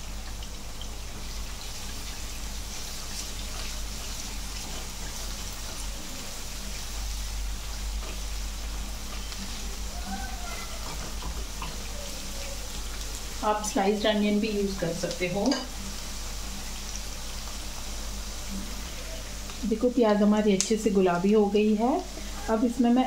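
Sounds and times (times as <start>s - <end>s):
chicken deep-frying in oil: 0.0s - 23.0s
rice boiling in water: 0.0s - 23.0s.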